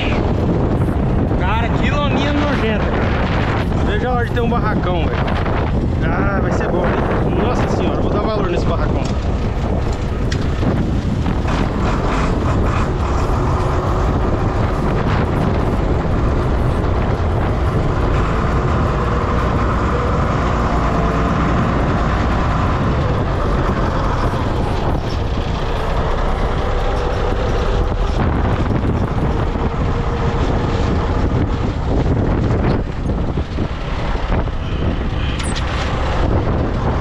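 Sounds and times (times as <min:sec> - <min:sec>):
motor vehicle running: 0:00.0 - 0:37.0
wind buffeting microphone: 0:00.0 - 0:37.0.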